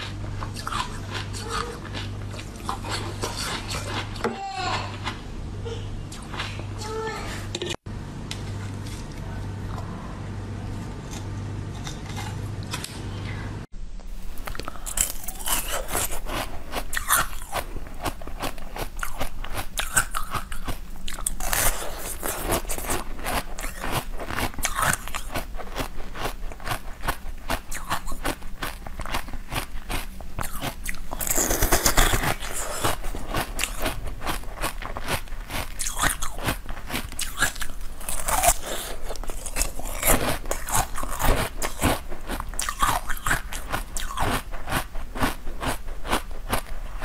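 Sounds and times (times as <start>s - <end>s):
crunching and chewing frozen treat: 0.0s - 5.2s, 14.2s - 47.0s.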